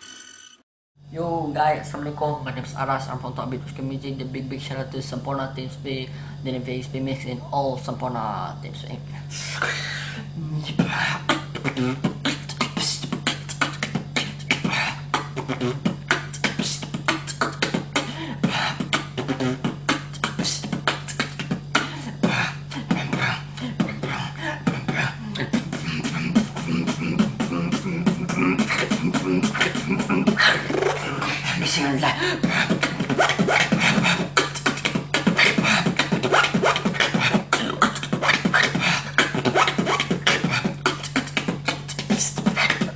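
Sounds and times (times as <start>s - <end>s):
person beatboxing: 8.1s - 42.9s.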